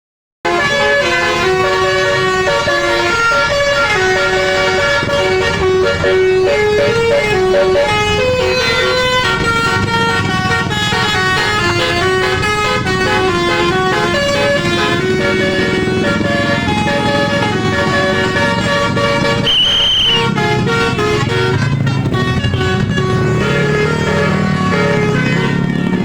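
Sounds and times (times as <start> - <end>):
musical air horn melody: 0.4 - 26.0.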